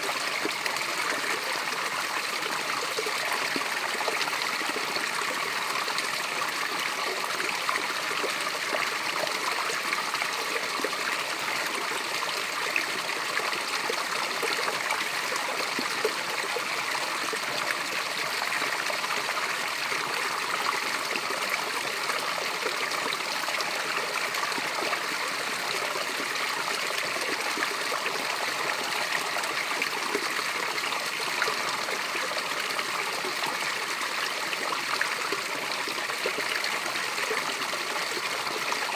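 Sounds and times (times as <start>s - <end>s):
small waterfall rushing: 0.0s - 38.9s.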